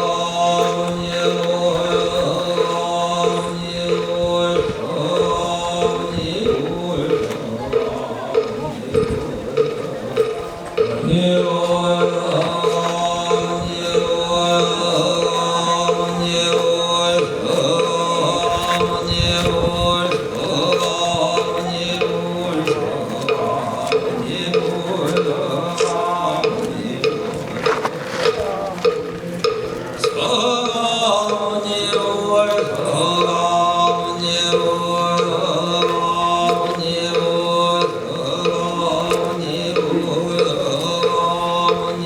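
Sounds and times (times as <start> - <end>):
chanting: 0.0 - 42.0.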